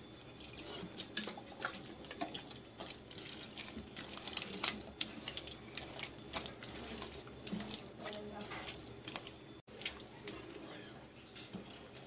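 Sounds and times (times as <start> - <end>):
hand kneading wet batter: 0.0 - 12.0.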